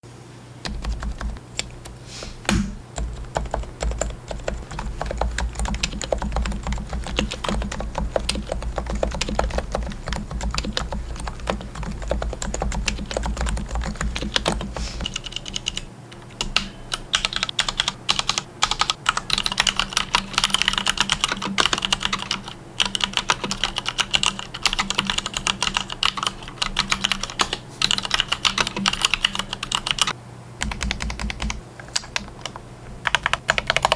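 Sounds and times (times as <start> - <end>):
fast keyboard typing: 0.6 - 33.9.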